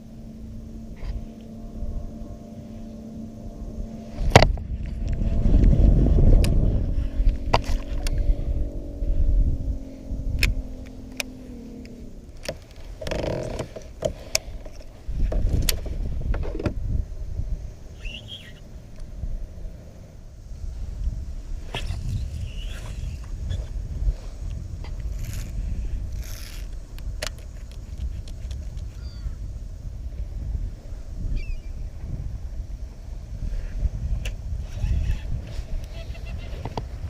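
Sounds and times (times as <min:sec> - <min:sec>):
low rumbling noise: 0:00.0 - 0:37.0.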